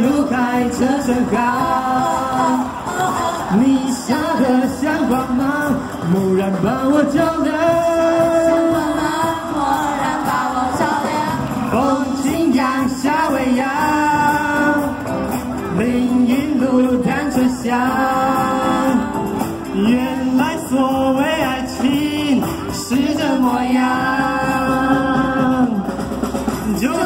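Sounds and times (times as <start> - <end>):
acoustic guitar: 0.0 - 27.0
drum kit: 0.0 - 27.0
people singing: 0.0 - 27.0.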